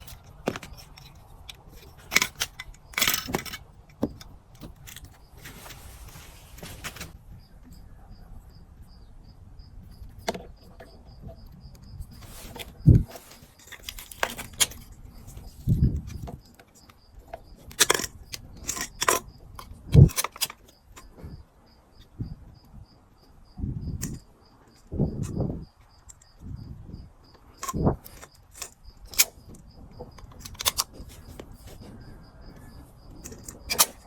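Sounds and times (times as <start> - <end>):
light metallic rattles: 0.0 - 8.0, 9.8 - 22.8, 23.4 - 34.0.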